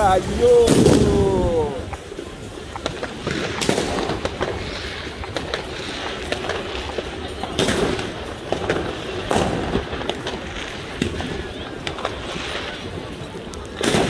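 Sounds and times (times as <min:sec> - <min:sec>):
fireworks and firecrackers banging: 0:00.0 - 0:14.0.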